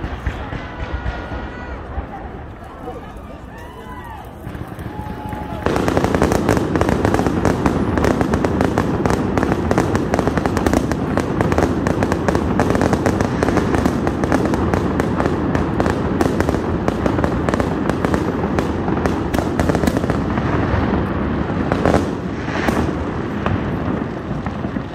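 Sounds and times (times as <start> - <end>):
fireworks bangs and crackling: 0.0 - 24.9.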